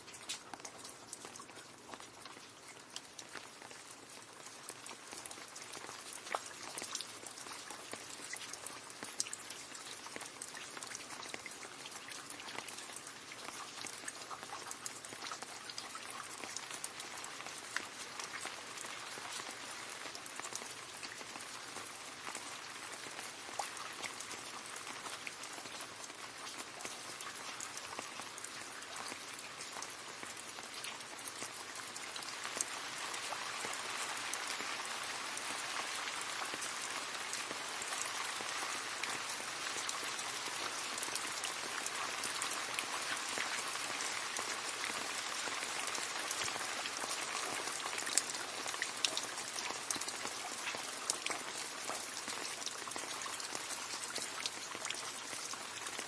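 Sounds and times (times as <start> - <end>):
rain splashing into a puddle: 0.0 - 56.0.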